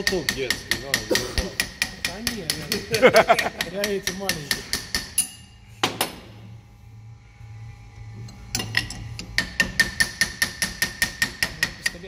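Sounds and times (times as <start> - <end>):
hammer tapping metal: 0.0 - 6.2, 8.3 - 12.0.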